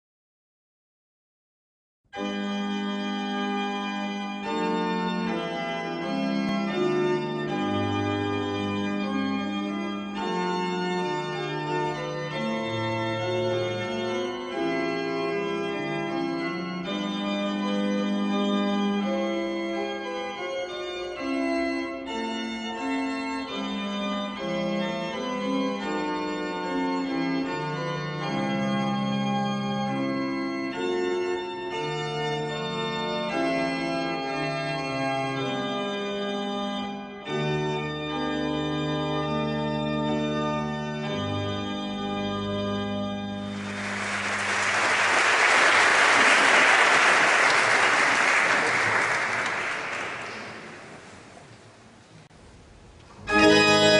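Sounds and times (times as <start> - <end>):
pipe organ playing: 2.2 - 51.9, 53.1 - 53.9.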